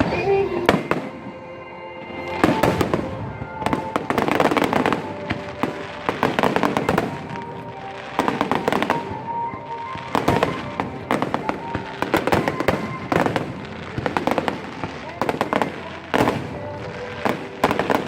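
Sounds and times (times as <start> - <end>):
fireworks bangs and crackle: 0.0 - 1.4, 2.2 - 18.0
music playing: 0.0 - 18.0.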